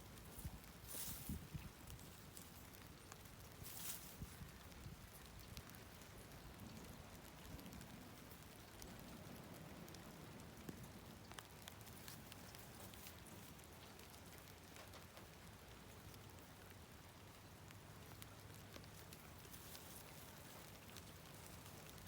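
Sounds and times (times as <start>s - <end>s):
light rain hiss: 0.0s - 22.0s
small drips: 0.0s - 22.0s.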